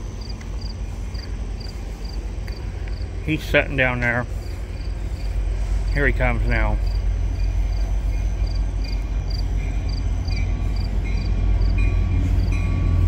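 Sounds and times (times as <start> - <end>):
crickets chirping: 0.0 - 13.0
freight train rumbling: 0.0 - 13.0
insect long chirps: 0.0 - 13.0.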